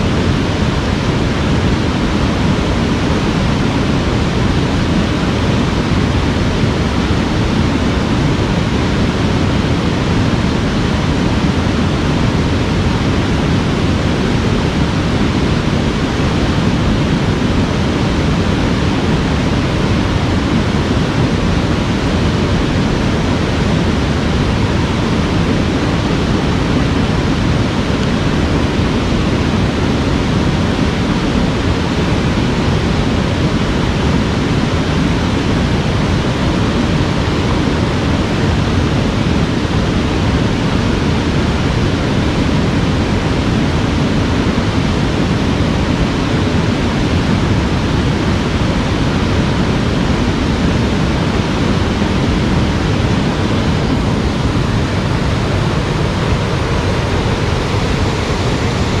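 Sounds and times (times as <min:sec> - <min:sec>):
white water rushing over rocks: 0:00.0 - 0:59.0.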